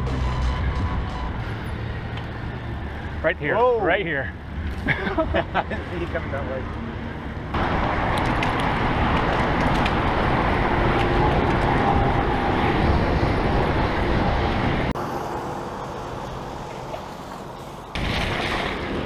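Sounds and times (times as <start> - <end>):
road and traffic noise: 0.0 - 19.0.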